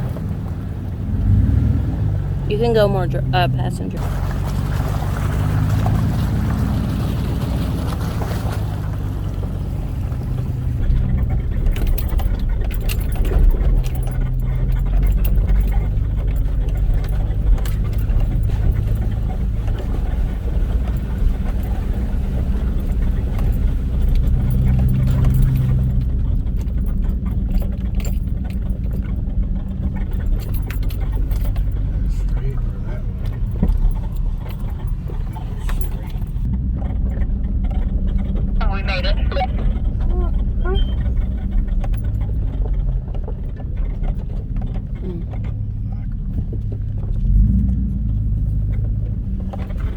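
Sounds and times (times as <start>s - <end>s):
off-road vehicle engine crawling: 0.0s - 49.9s
body rattles and knocks over rocks: 4.0s - 38.6s, 39.6s - 49.9s.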